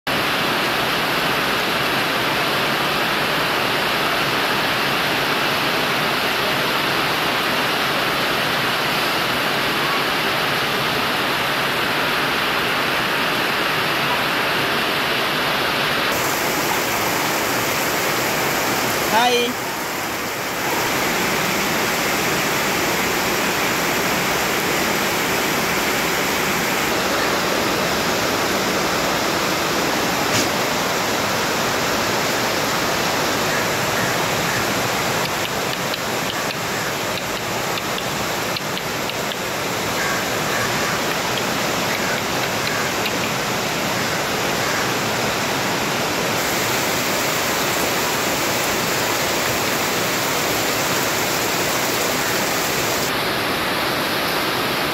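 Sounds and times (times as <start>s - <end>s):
heavy rain on metal roof: 0.0s - 54.9s.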